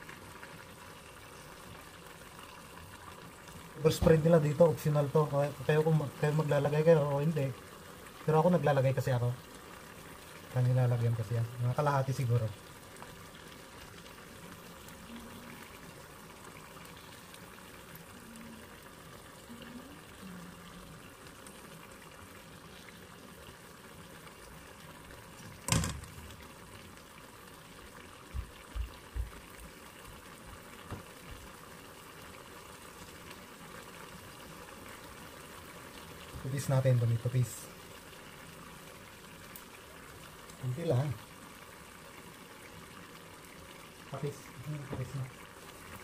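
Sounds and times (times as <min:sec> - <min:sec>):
stew bubbling in a pan: 0:00.0 - 0:46.0.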